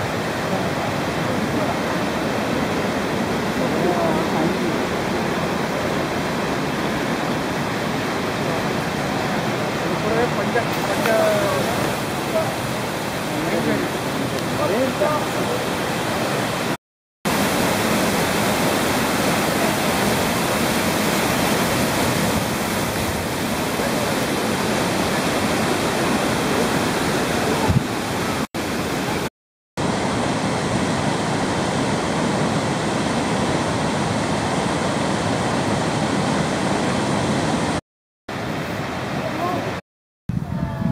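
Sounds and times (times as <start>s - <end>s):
waterfall rushing into pool: 0.0s - 39.8s.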